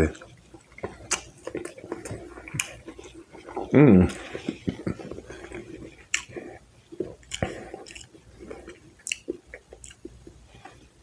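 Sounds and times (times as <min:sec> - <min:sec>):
mouth clicks and smacks: 0:00.0 - 0:10.4
person chewing food: 0:00.0 - 0:11.0.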